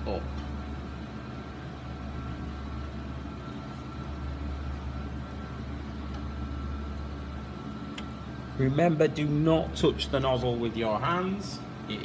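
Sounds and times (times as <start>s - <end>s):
cooling fans humming with whine: 0.0s - 12.0s.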